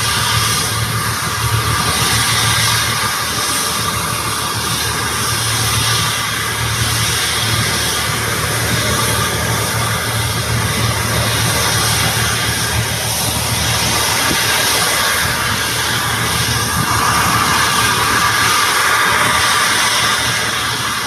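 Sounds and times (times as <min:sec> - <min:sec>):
jet engine running: 0:00.0 - 0:21.0.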